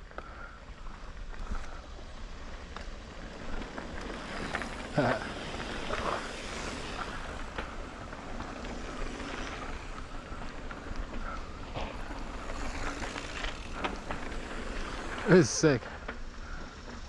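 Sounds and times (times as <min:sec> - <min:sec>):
bike rattling over bumps: 0:00.0 - 0:17.0
bike tyre noise on dirt: 0:00.0 - 0:17.0.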